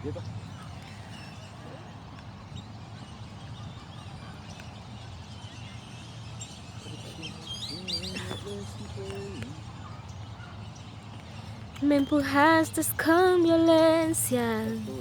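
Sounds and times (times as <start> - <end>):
birds chirping: 0.0 - 15.0
low background noise: 0.0 - 15.0.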